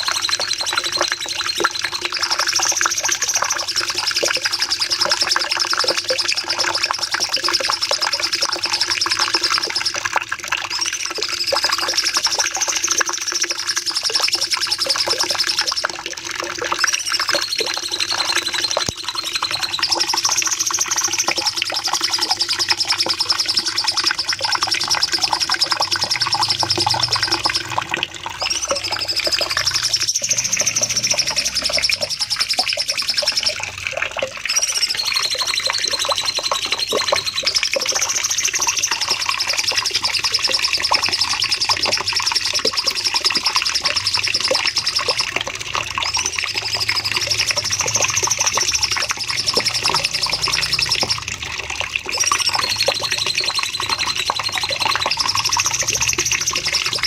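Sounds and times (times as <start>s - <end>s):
bird singing rattling trill: 0.0s - 33.8s, 34.4s - 51.3s, 52.2s - 57.0s.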